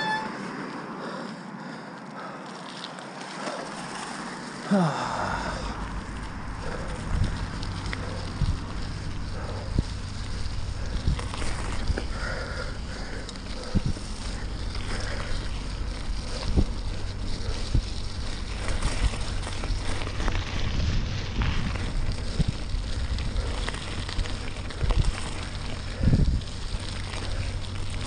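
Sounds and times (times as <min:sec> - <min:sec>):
bicycle tyres on wet gravel: 0:00.0 - 0:28.0
wind buffeting microphone: 0:05.3 - 0:28.0.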